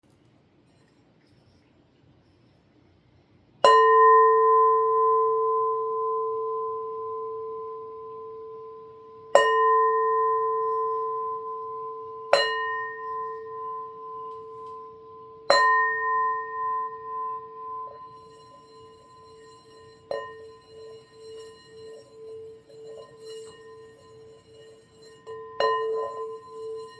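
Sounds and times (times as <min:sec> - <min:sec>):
singing bowl ringing: 0:03.6 - 0:26.9.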